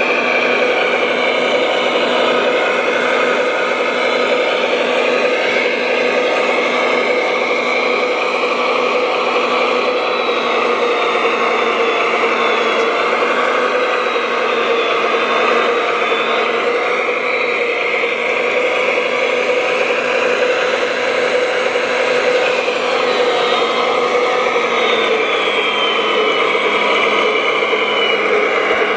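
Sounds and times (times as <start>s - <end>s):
electric motors whirring: 0.0s - 28.9s
thin high wavering whine: 0.0s - 28.9s.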